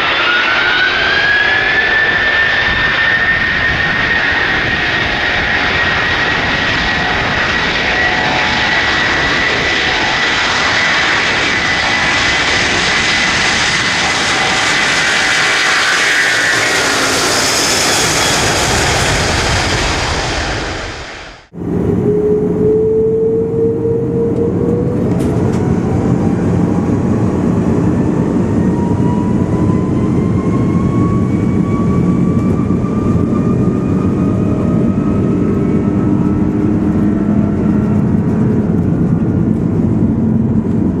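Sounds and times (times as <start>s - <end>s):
engine whine rising in pitch: 0.0s - 41.0s
jet engines rumbling: 0.0s - 41.0s.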